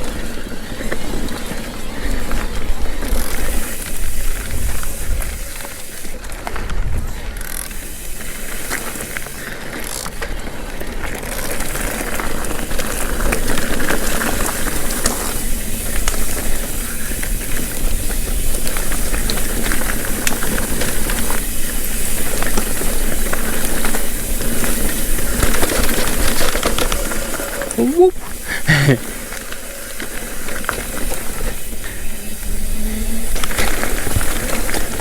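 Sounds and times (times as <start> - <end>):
wind and tyre noise: 0.0 - 28.5, 29.1 - 35.0
bike rattles and clicks: 0.0 - 35.0.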